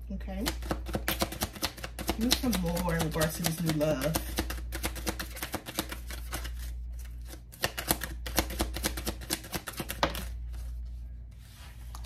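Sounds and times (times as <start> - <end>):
cards being shuffled: 0.5 - 12.0.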